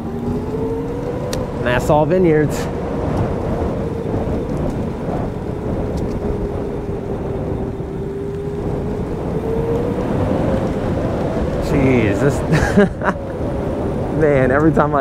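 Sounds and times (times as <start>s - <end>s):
electric motorbike motor whine: 0.0s - 15.0s
wind rumble on microphone: 0.0s - 15.0s.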